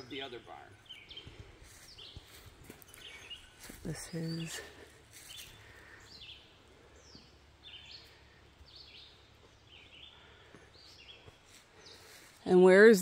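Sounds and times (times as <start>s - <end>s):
bird chirping: 0.0s - 12.6s.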